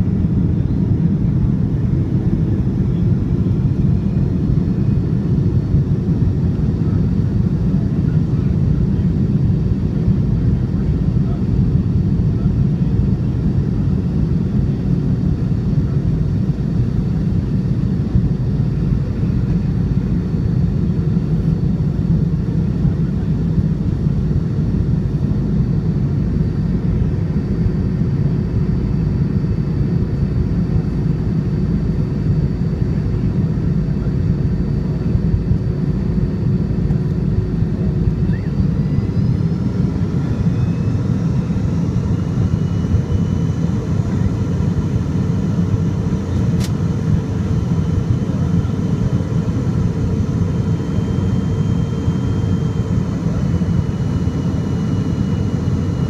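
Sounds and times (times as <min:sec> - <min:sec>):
airplane cabin rumble: 0:00.0 - 0:56.0
jet engine whine: 0:00.0 - 0:56.0.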